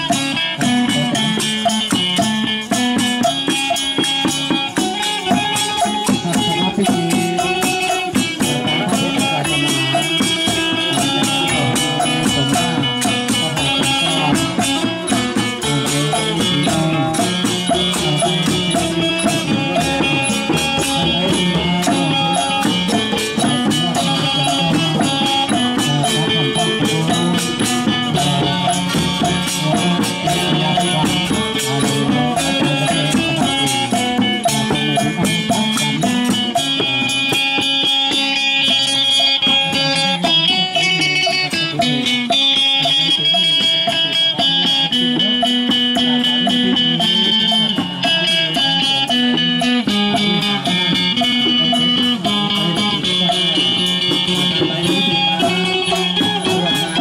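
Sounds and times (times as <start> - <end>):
hand drums: 0.0 - 57.0
pipe playing: 0.0 - 57.0
plucked lutes: 0.0 - 57.0
steady percussion beat: 0.0 - 57.0.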